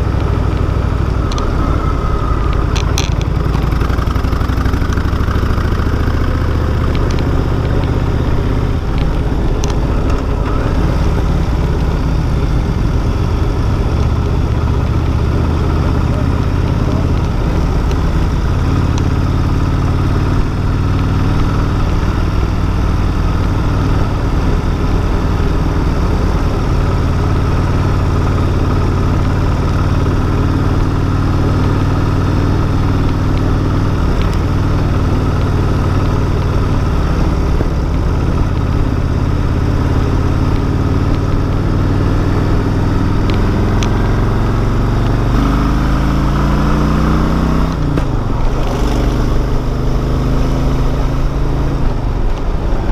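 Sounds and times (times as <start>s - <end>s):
motorcycle engine running: 0.0s - 52.9s
wind rushing over microphone: 5.2s - 29.5s, 30.1s - 52.9s.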